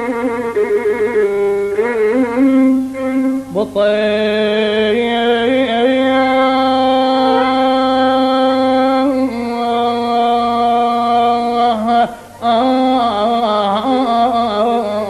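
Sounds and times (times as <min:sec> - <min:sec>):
ornamented lead melody instrument: 0:00.0 - 0:15.0.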